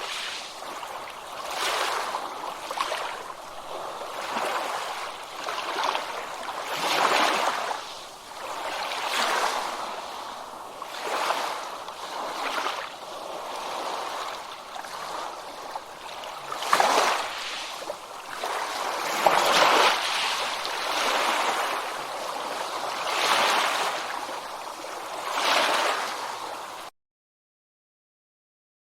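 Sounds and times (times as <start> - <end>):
ocean waves washing in: 0.0 - 26.9.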